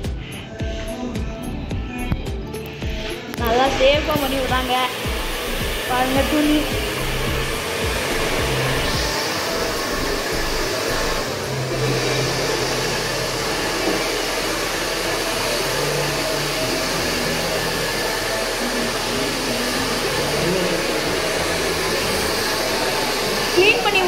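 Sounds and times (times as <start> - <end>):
hair dryer blowing: 2.1 - 24.0.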